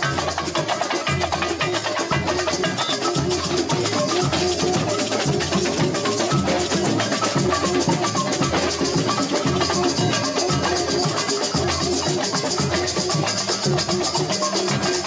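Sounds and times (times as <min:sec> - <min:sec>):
shakers rattling: 0:00.0 - 0:15.0
snare drums: 0:00.0 - 0:15.0.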